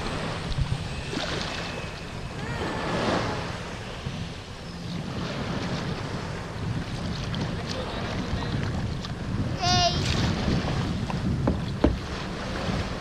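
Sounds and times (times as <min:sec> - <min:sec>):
water splashing around kayak: 0:00.0 - 0:13.0
wind buffeting microphone: 0:00.0 - 0:13.0.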